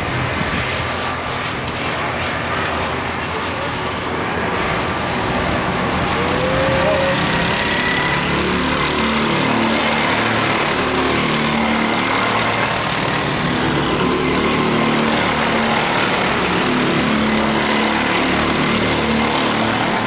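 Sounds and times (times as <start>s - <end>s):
go-kart engines racing: 1.0s - 20.0s.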